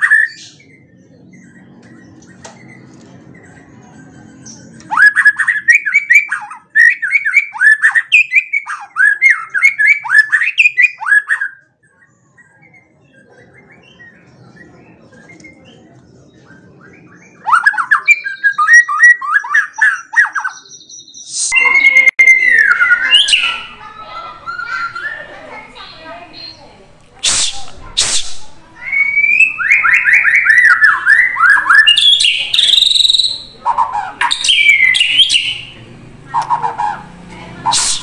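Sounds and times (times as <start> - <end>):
bird singing harsh notes: 0.0 - 38.0.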